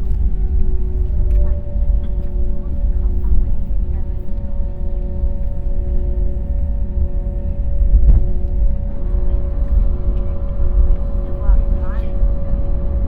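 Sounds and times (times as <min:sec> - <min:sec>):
airliner engines and gear rumbling: 0:00.0 - 0:13.0.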